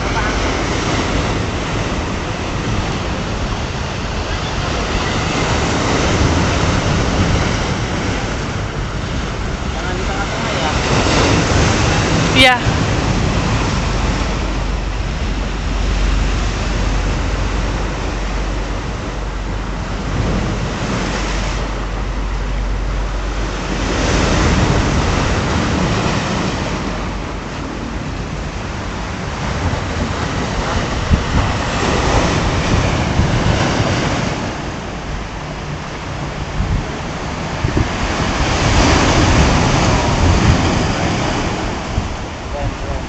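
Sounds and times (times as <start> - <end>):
surf breaking over boulders: 0.0 - 43.0
wind rumble on microphone: 0.0 - 43.0.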